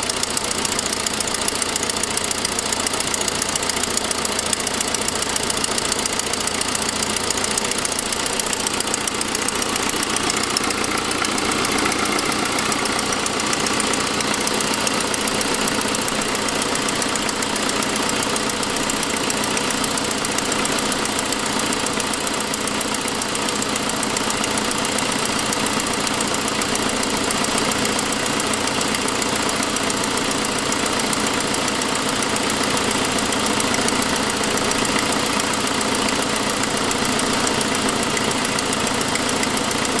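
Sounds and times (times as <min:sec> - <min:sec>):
car engine idling with ticking: 0:00.0 - 0:40.0.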